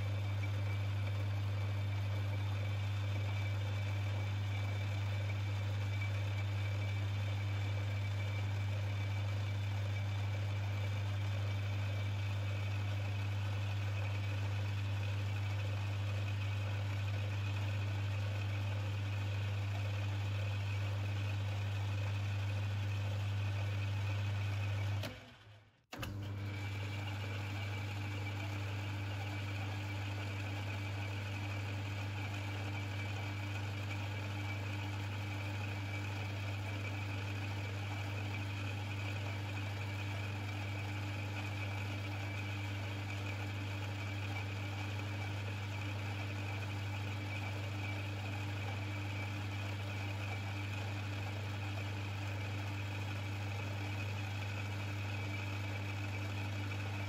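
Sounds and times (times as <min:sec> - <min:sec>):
metal lathe motor hum: 0:00.0 - 0:25.0, 0:26.1 - 0:57.0.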